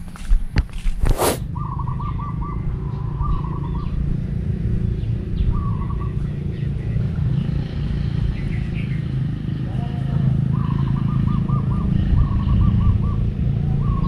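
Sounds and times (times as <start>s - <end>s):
birds chirping: 1.5s - 14.0s
motorcycle engine idling: 1.5s - 14.0s.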